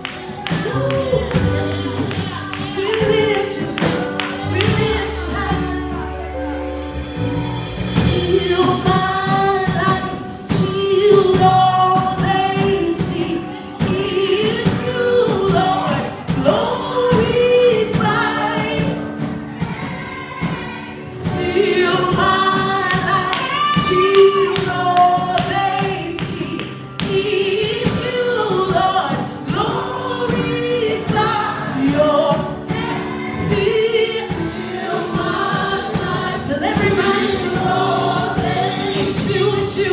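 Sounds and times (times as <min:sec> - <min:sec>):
band accompaniment: 0:00.0 - 0:39.9
gospel singing voices: 0:00.0 - 0:39.9.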